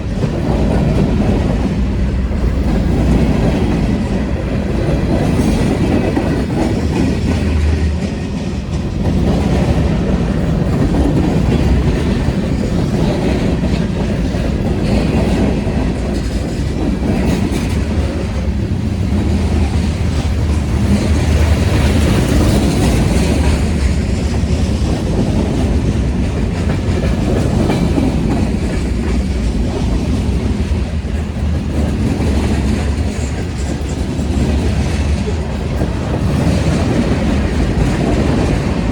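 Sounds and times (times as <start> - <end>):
freight train cars rolling past: 0.0 - 38.9
wheels clacking on rails: 0.0 - 38.9.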